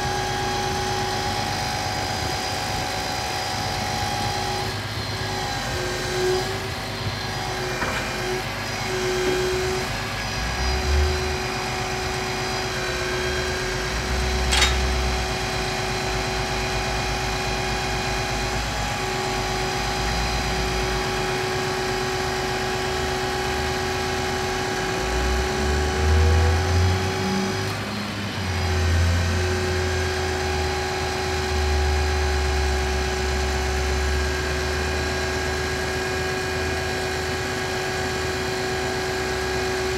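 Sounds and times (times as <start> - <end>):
hydraulic whine: 0.0 - 39.9.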